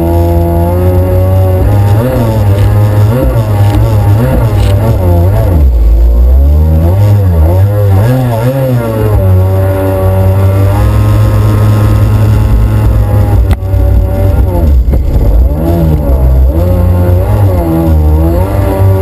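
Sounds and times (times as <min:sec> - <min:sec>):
jet ski engine revving: 0:00.0 - 0:19.0.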